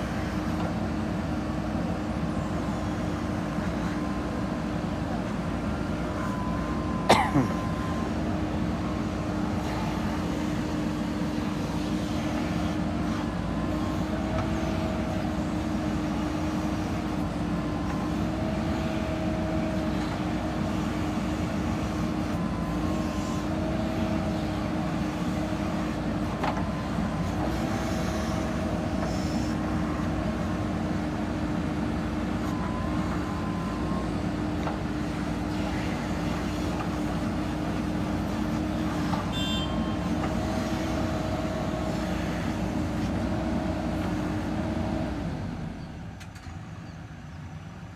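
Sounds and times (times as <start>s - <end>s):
diesel engine running: 0.0s - 46.2s.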